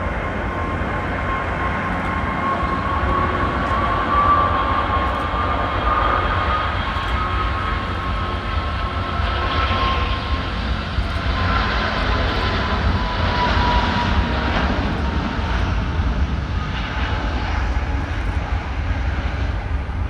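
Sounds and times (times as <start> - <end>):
jet engines rumbling and whining: 0.0 - 20.0.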